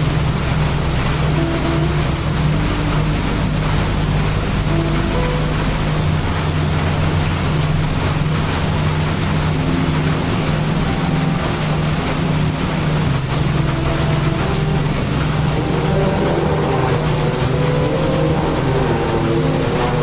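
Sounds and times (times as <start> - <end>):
deep low rumble: 0.0 - 20.0
heavy rain hissing: 0.0 - 20.0.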